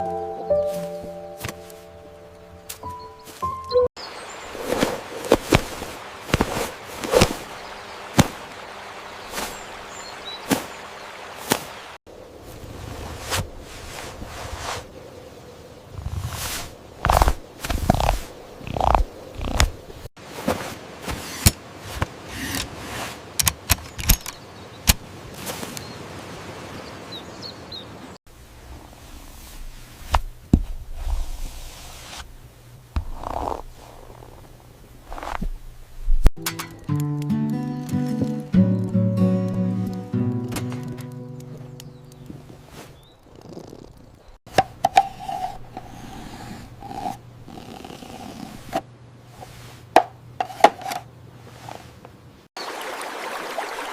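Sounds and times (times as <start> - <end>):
outdoor background noise: 0.0 - 53.9.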